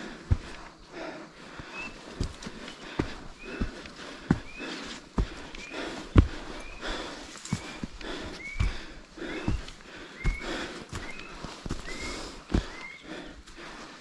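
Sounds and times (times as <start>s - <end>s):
footsteps on trail: 0.0s - 14.0s.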